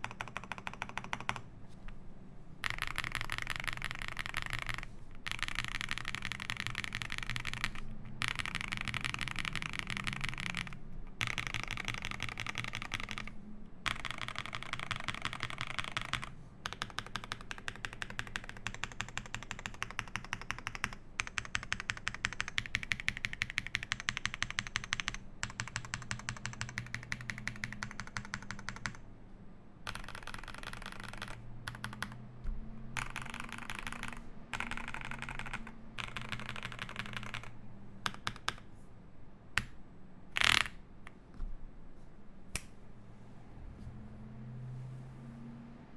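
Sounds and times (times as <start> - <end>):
fast typing on mechanical keyboard: 0.0 - 1.4, 2.6 - 29.0, 29.8 - 38.7, 40.4 - 40.8.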